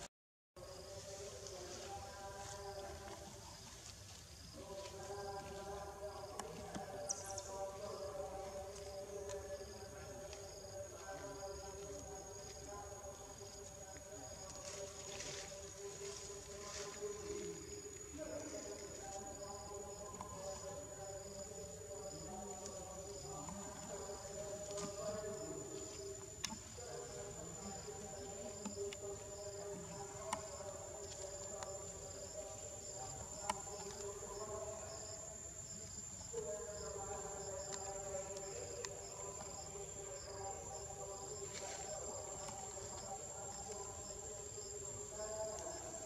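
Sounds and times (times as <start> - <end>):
insects whining and chirping: 0.6 - 46.0.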